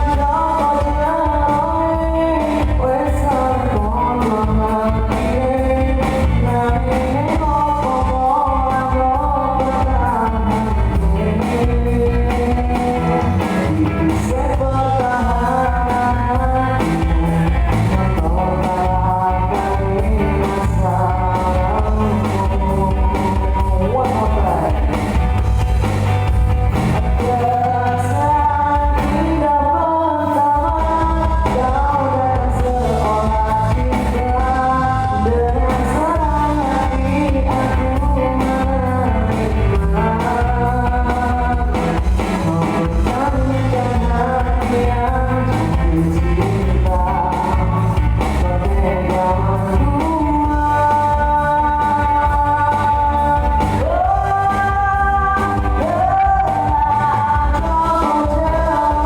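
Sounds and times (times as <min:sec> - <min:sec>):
person singing: 0:00.0 - 0:26.3, 0:27.0 - 0:59.0
drums: 0:00.0 - 0:59.0
guitar: 0:00.0 - 0:59.0.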